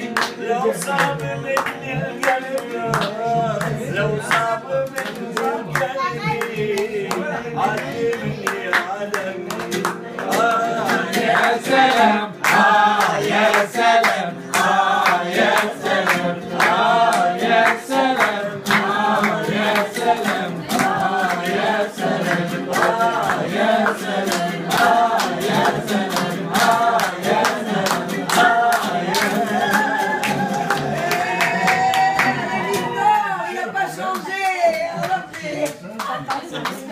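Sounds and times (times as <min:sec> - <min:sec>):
oud playing: 0:00.0 - 0:32.6
group of people singing: 0:00.0 - 0:36.9
rhythmic hand clapping: 0:00.0 - 0:36.9.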